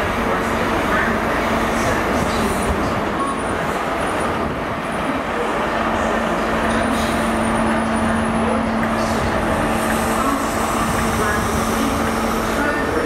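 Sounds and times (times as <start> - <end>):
diesel train passing: 0.0 - 13.0.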